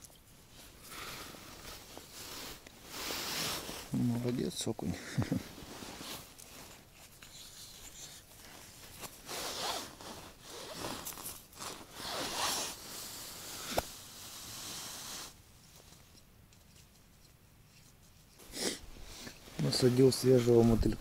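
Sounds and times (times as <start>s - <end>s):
gloves and line rustling: 0.0s - 21.0s.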